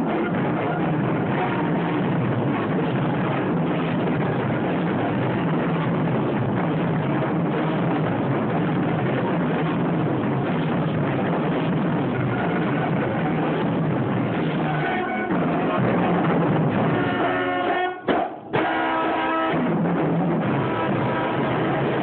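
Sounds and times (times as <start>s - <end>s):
distorted band playing: 0.0s - 22.0s.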